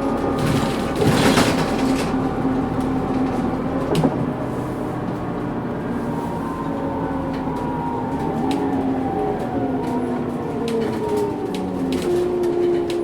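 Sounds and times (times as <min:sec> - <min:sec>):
bus differential whining: 0:00.0 - 0:13.0
bus engine running: 0:00.0 - 0:13.0.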